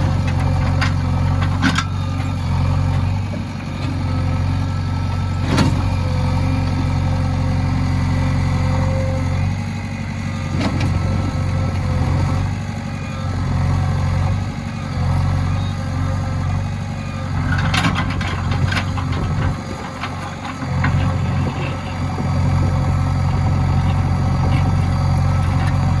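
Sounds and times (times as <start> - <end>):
diesel engine running at low revs: 0.0 - 26.0.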